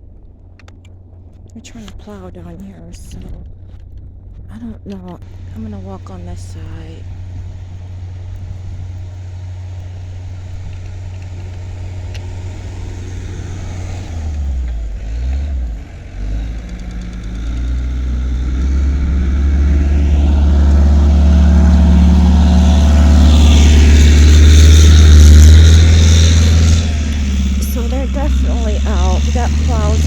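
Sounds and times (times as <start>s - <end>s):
truck engine drone: 0.0s - 30.0s
tyres and plow hissing on snow: 5.3s - 30.0s.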